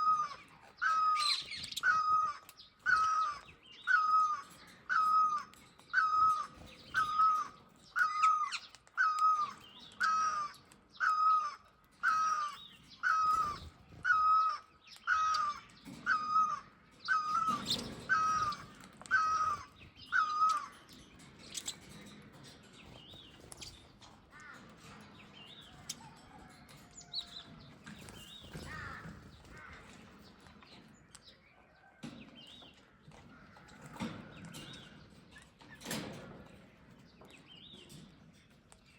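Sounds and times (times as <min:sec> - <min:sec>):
faint bird chirping: 0:00.0 - 0:36.2.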